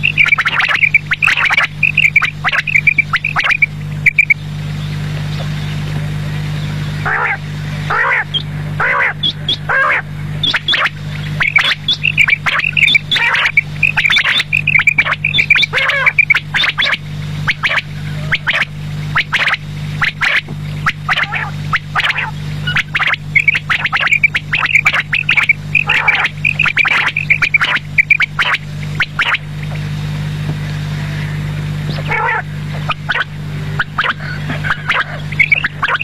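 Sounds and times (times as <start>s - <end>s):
quail calling: 0.0s - 5.6s, 6.9s - 29.8s, 31.2s - 36.0s
steady low hum: 0.0s - 36.0s.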